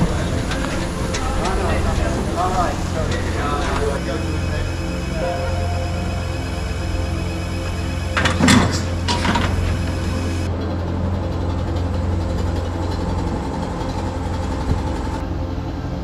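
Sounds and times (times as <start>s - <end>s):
steam locomotive low hum: 0.0s - 16.0s.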